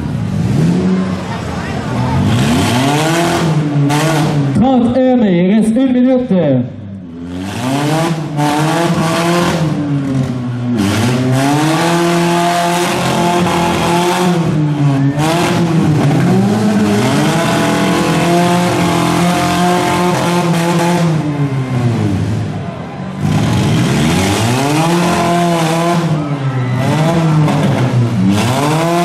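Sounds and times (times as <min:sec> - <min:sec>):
car engines revving hard: 0:00.0 - 0:05.2, 0:06.9 - 0:29.0.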